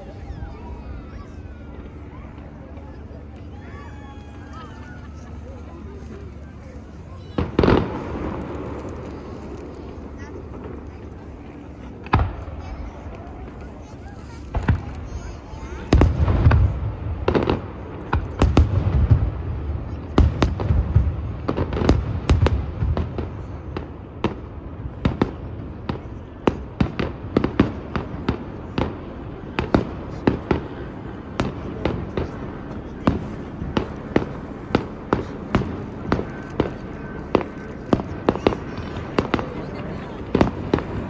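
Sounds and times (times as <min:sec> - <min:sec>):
fireworks cracking and popping: 0:05.3 - 0:41.0
fireworks booming: 0:07.2 - 0:41.0.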